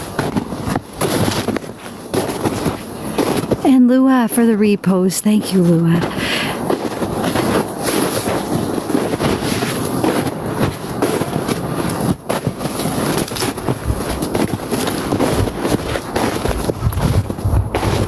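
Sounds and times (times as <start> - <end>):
footsteps crunching through snow: 0.0 - 18.0.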